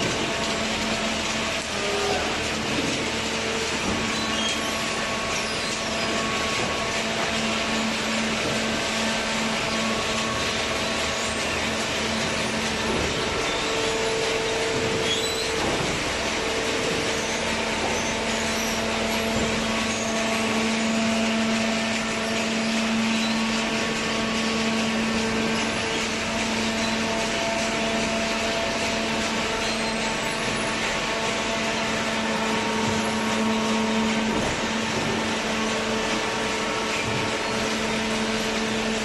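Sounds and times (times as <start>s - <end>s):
hydraulic machine drone: 0.0s - 39.0s.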